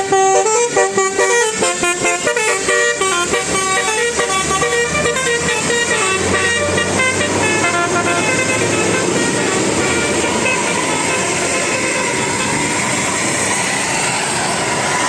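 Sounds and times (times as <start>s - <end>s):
musical bus horn: 0.0s - 12.8s
bus engine hum: 0.0s - 15.0s.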